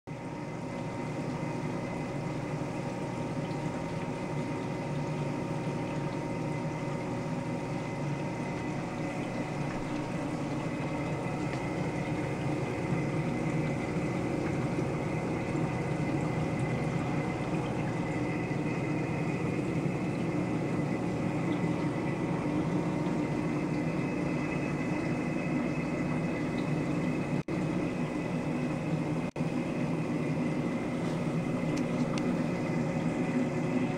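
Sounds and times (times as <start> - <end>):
aquarium pumps humming: 0.1 - 33.9
flowing water: 0.1 - 33.9.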